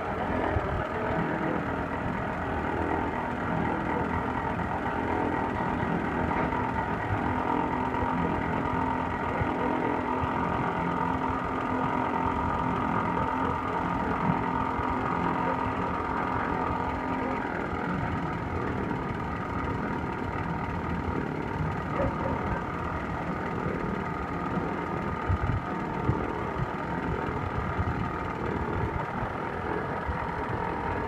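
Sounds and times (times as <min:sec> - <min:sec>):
vacuum conveyor machine drone: 0:00.0 - 0:31.0.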